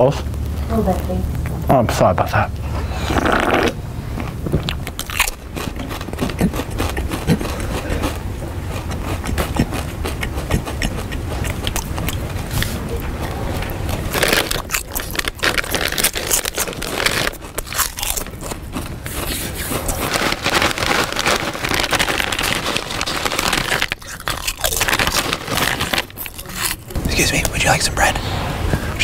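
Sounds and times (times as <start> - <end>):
crunching and chewing food: 2.5 - 28.1.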